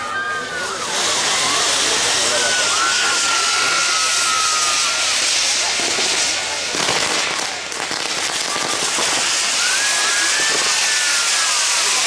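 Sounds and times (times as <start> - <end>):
firework whistle: 0.0 - 12.0
fireworks crackling: 0.0 - 12.0.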